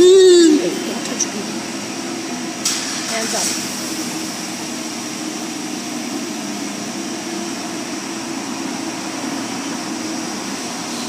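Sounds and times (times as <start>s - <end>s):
air-dryer blowers rushing: 0.0s - 11.0s.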